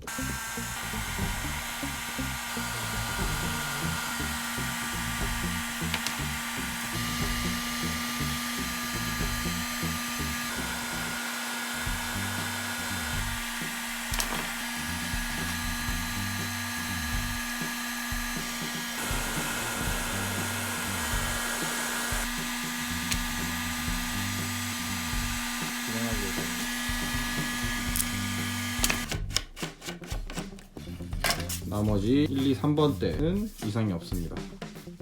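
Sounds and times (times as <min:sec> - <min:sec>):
hot-air blower hissing and humming: 0:00.0 - 0:29.2
background music with bass: 0:00.0 - 0:35.0.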